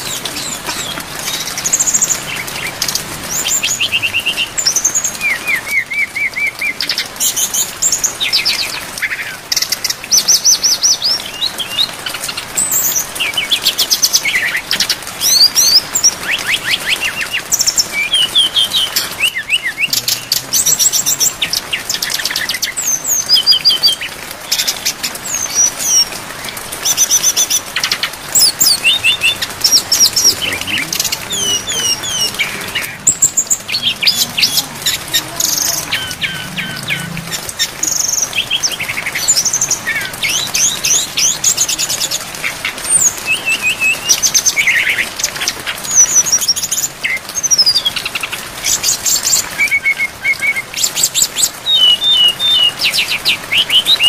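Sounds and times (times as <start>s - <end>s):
bird singing trills and whistles: 0.0s - 26.1s, 26.7s - 42.2s, 42.8s - 54.0s
rain hissing: 0.0s - 54.0s.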